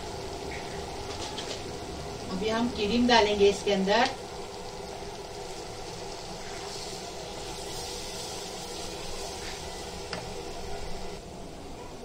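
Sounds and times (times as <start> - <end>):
roux sizzling in a hot pan: 0.0 - 11.8.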